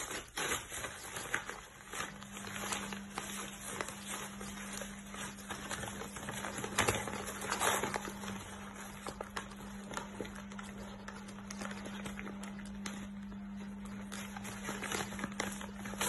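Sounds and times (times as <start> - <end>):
paper crackling and rustling: 0.0 - 16.0
paper ripping: 0.0 - 16.0.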